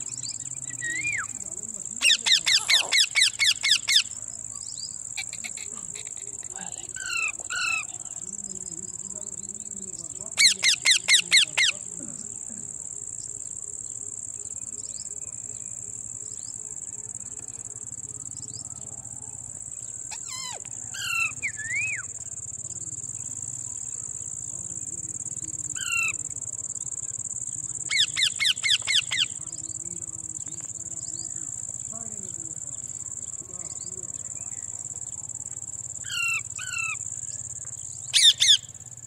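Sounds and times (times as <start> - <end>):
bird calls: 0.0 - 39.0
crickets trilling: 0.0 - 39.0.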